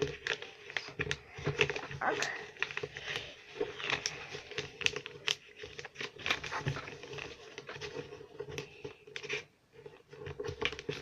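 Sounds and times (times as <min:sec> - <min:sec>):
paper being folded and creased: 0:00.0 - 0:11.0.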